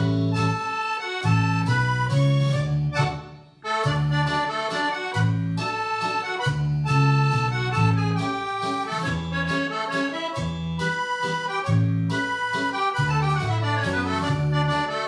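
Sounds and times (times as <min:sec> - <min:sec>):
accordion playing: 0:00.0 - 0:15.0.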